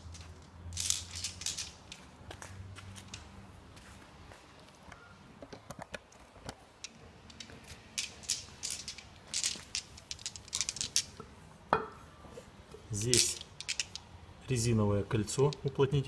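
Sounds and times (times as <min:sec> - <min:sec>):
light clicks of metal parts: 0:00.0 - 0:03.6, 0:04.6 - 0:16.0.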